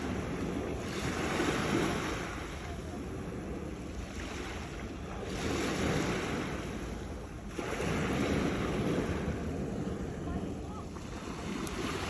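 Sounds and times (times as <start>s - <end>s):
sea waves crashing against rocks: 0.0s - 12.0s.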